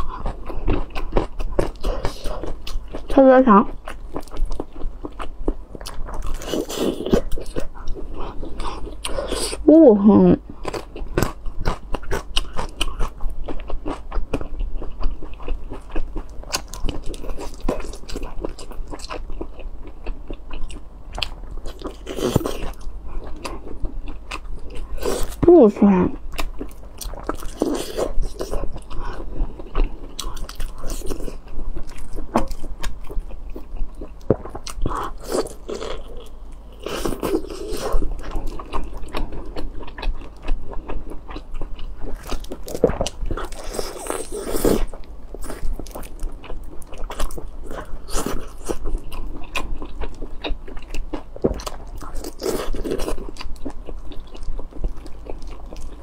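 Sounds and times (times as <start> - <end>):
chewing noises: 0.0 - 9.7, 10.3 - 56.0.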